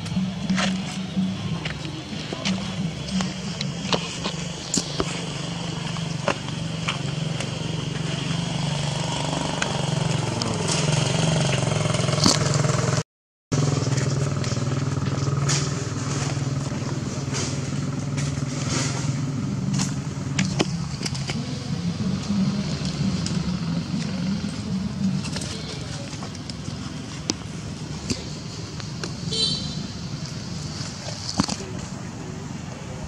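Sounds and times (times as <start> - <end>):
motor engine humming: 0.0 - 33.0.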